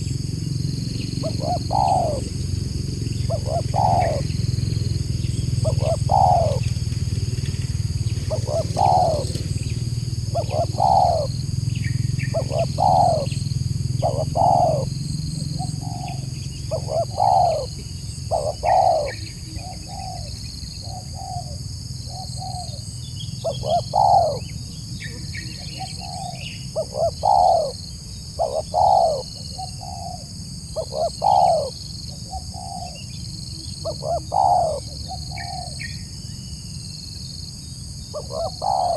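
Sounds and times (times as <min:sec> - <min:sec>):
dove cooing: 0:00.0 - 0:36.1, 0:38.1 - 0:38.9.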